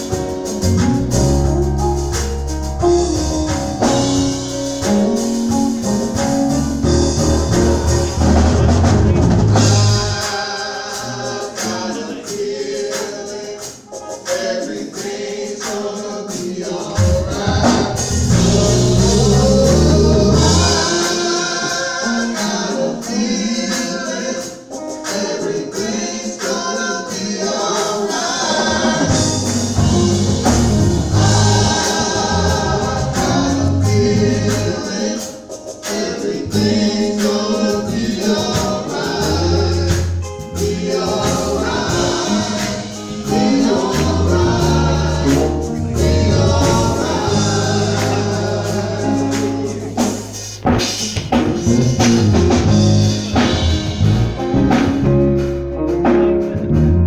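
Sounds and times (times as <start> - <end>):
band accompaniment with bass: 0.0 - 57.0
gospel group singing: 0.0 - 57.0.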